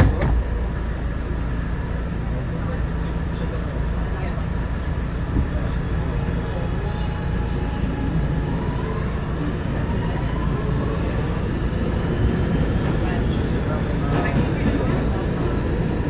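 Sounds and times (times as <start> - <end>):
rumble of wheels on rail: 0.0 - 16.0.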